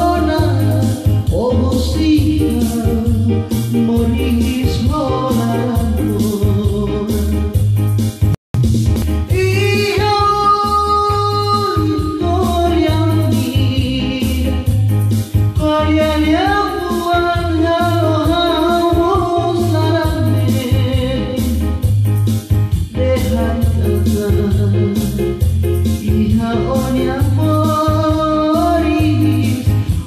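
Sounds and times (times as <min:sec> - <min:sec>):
man singing into a microphone: 0:00.0 - 0:07.8, 0:09.2 - 0:22.0, 0:22.8 - 0:30.0
electronic keyboard bass rhythm: 0:00.0 - 0:30.0.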